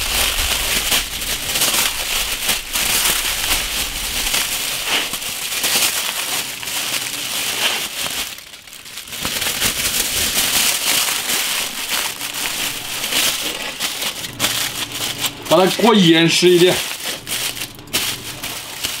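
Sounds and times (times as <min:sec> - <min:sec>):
aluminium foil crinkling: 0:00.0 - 0:19.0.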